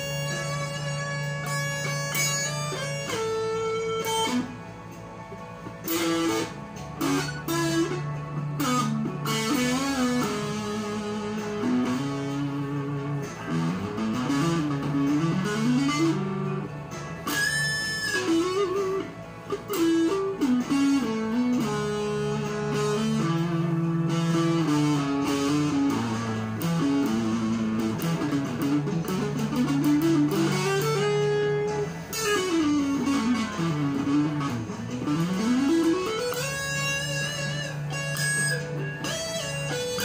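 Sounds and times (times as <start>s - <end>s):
electric guitar lead melody: 0.0s - 40.0s.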